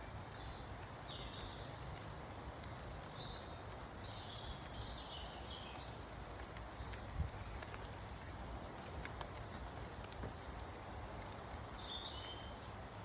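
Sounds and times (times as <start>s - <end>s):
rain falling through woodland: 0.0s - 13.0s.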